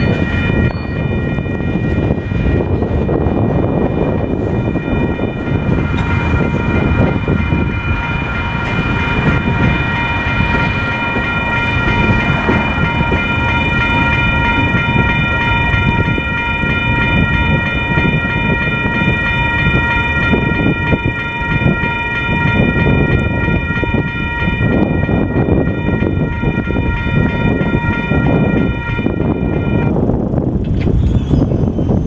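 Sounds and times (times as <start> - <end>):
crossing bells ringing: 0.0 - 30.6
freight train rumbling: 0.0 - 32.0.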